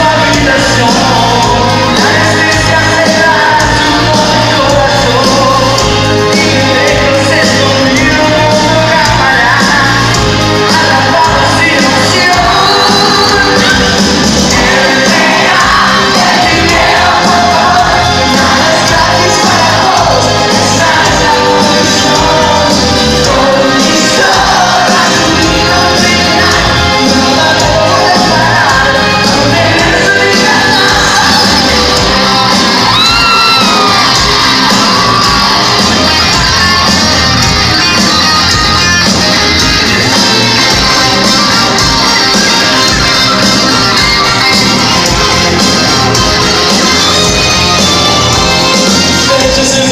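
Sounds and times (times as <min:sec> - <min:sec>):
person singing: 0:00.0 - 0:49.9
rock band playing live: 0:00.0 - 0:49.9
sung and shouted vocals: 0:00.0 - 0:49.9.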